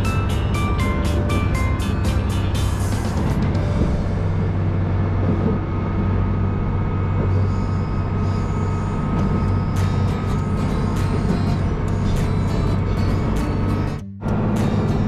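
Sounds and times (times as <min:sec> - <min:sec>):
thin steady whine: 0:00.0 - 0:14.0
diesel engine drone: 0:00.0 - 0:15.0
train wheels on rails: 0:00.0 - 0:15.0.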